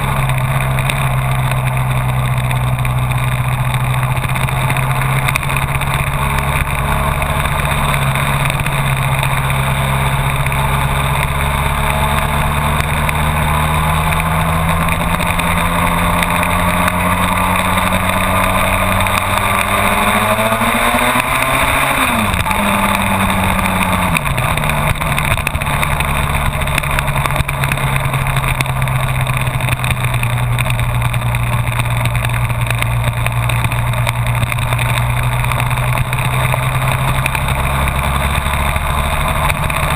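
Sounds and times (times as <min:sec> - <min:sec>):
motorcycle riding: 0:00.0 - 0:39.9
wind noise: 0:00.0 - 0:39.9.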